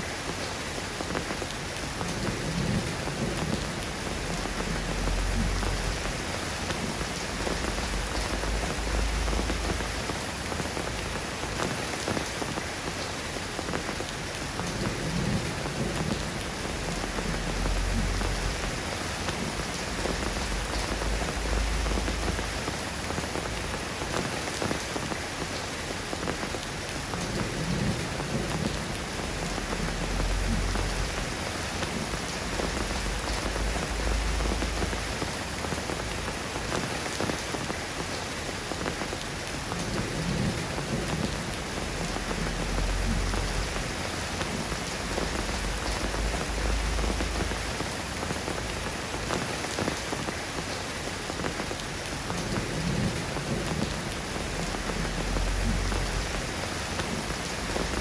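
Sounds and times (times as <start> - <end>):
rain falling on surfaces: 0.0 - 58.0.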